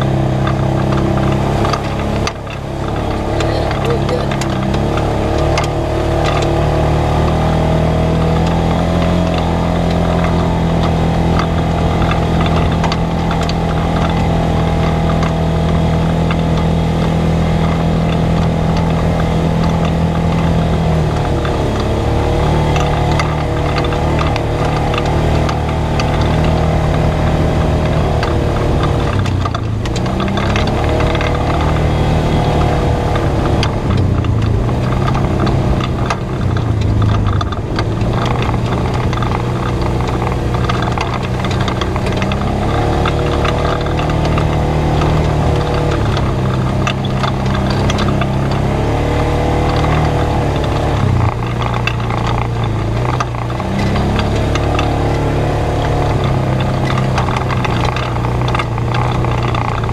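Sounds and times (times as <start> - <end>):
knocks and rattles of vehicle: 0.0 - 59.9
single-cylinder engine running: 0.0 - 59.9.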